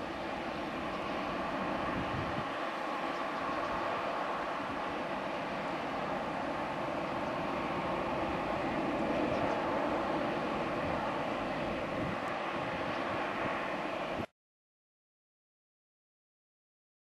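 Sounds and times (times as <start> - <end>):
jet engines running: 0.0 - 14.3.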